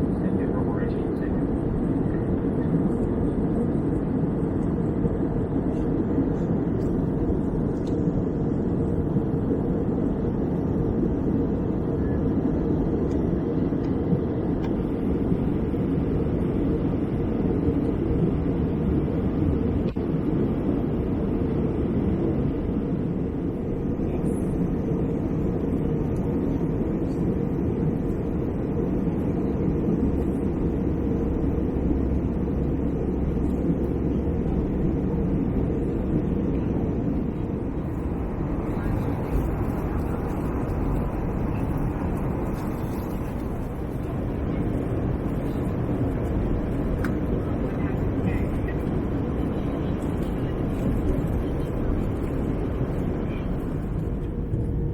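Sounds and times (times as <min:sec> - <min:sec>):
airliner cabin noise: 0:00.0 - 0:54.9.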